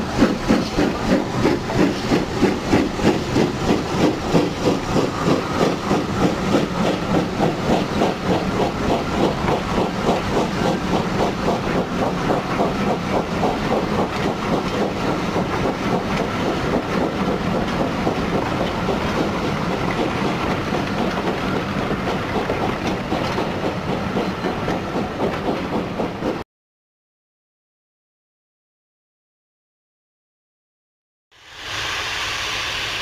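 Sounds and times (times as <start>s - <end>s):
train rumble: 0.0s - 26.4s.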